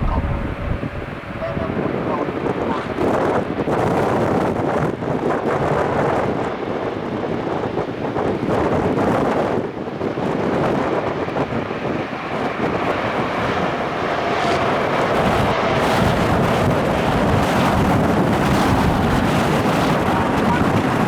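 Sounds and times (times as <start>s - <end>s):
jet engines noise: 0.0s - 21.0s
wind buffeting microphone: 0.0s - 21.0s.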